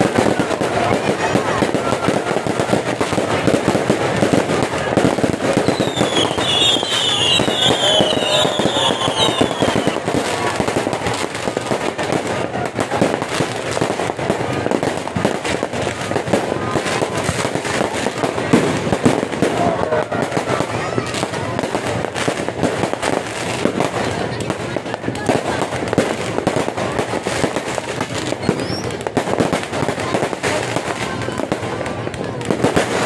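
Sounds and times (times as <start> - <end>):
fireworks crackling and popping: 0.0 - 33.0.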